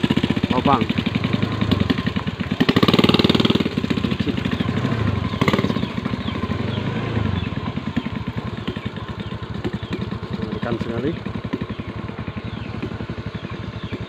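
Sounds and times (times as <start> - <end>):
motorcycle passing: 0.0 - 14.0
small motorcycle engine running: 0.0 - 14.0.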